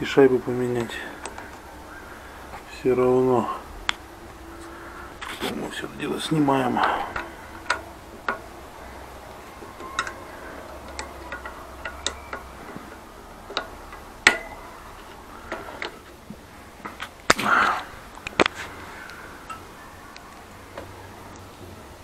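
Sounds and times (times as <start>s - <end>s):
bicycle wheel rattle: 0.0s - 22.0s.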